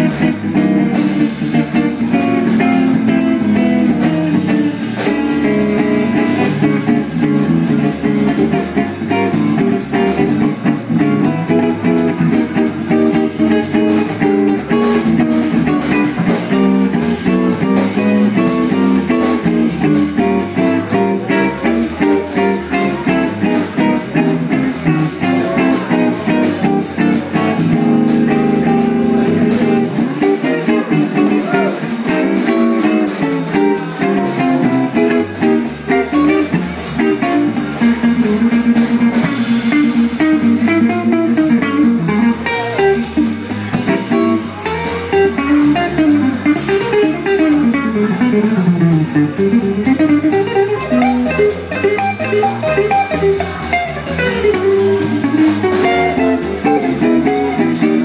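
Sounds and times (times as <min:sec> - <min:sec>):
electric guitar playing blues: 0:00.0 - 0:58.0.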